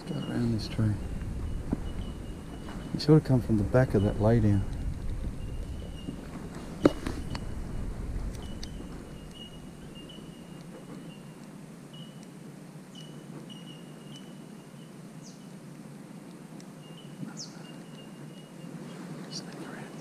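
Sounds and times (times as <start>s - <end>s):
birds calling: 0.0s - 15.7s, 16.6s - 20.0s
low background hiss: 0.0s - 20.0s.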